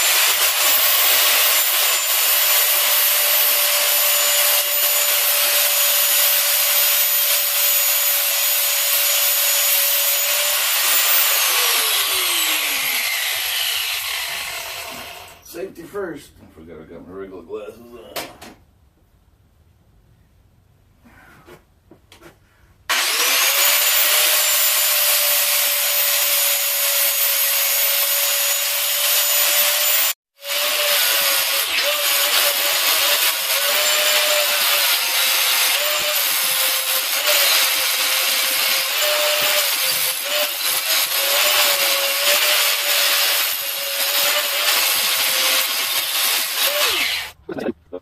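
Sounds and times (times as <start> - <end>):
electric grinder grinding steel: 0.0 - 15.4, 22.9 - 47.4.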